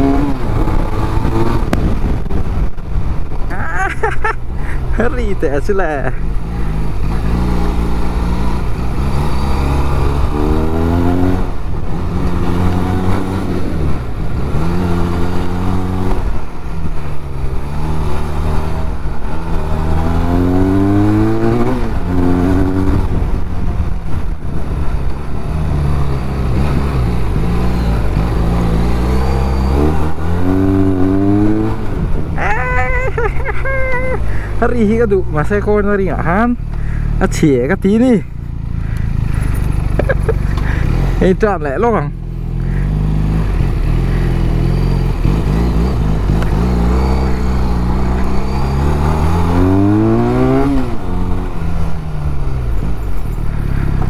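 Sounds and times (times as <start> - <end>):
motorcycle engine revving: 0.0 - 3.9, 4.6 - 54.0.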